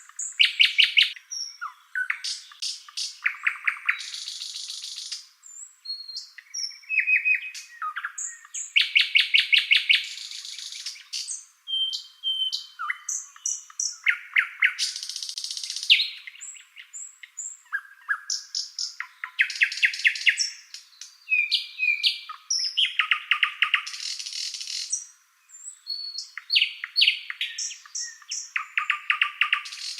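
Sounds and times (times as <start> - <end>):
songbird singing: 0.0 - 29.9.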